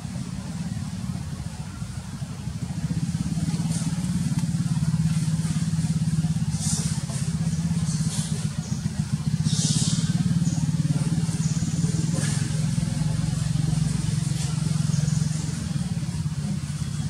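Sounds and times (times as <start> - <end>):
small engine running: 1.9 - 17.0.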